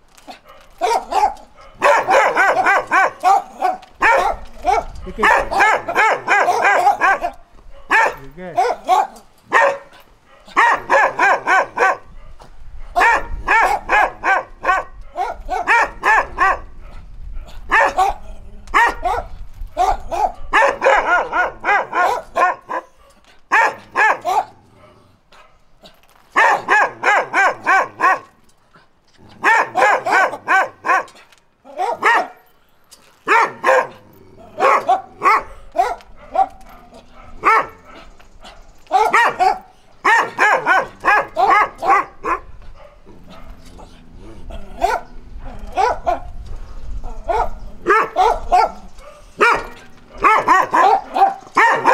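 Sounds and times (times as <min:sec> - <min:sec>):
dog barking: 0:00.4 - 0:17.1, 0:17.7 - 0:18.2, 0:18.8 - 0:25.6, 0:26.4 - 0:28.4, 0:29.4 - 0:32.4, 0:33.3 - 0:34.0, 0:34.6 - 0:43.7, 0:44.7 - 0:46.4, 0:47.2 - 0:51.9.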